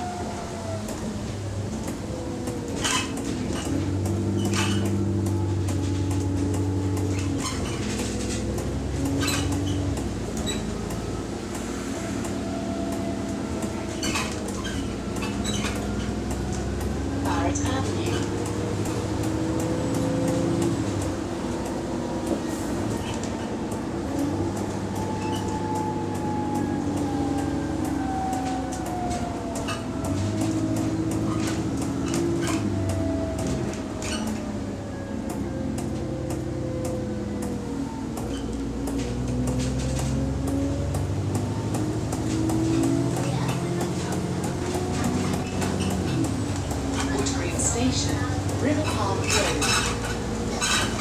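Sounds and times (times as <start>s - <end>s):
diesel bus engine running: 0.0s - 51.0s
vehicle clicks and rattles: 0.0s - 51.0s.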